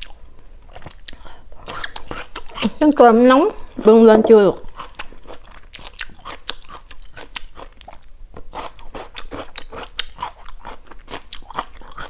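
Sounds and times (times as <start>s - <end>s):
chewing crunchy food: 0.0s - 2.8s, 4.6s - 12.0s.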